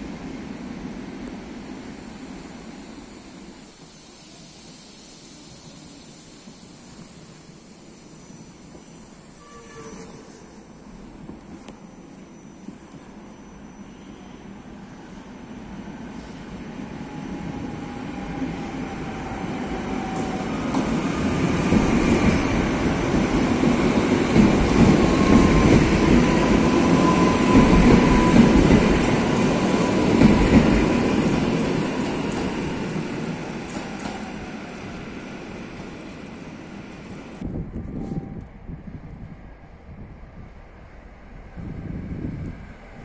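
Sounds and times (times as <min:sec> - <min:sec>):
train wheel and rail noise: 0:00.0 - 0:43.0.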